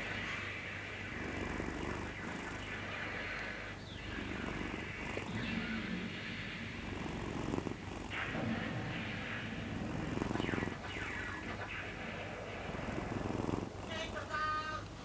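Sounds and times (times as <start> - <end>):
cat snoring: 0.0 - 15.0.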